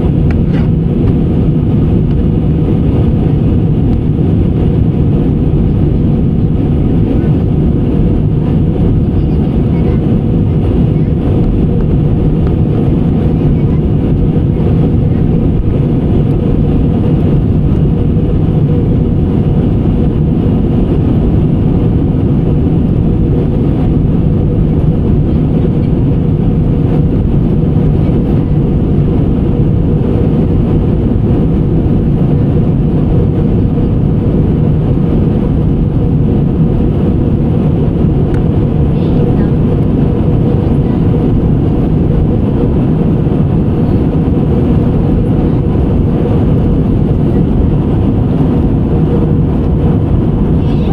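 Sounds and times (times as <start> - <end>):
airliner cabin engine drone: 0.0 - 50.9.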